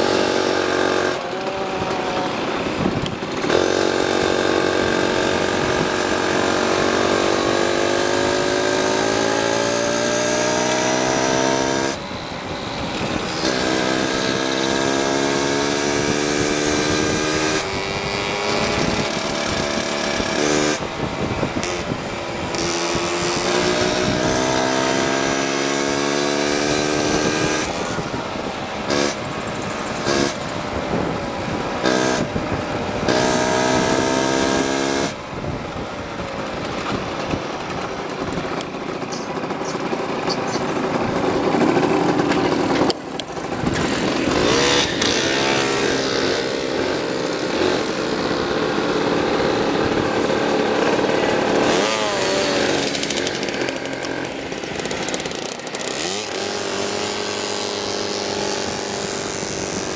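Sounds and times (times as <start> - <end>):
two-stroke scooter engine accelerating: 0.0 - 59.9.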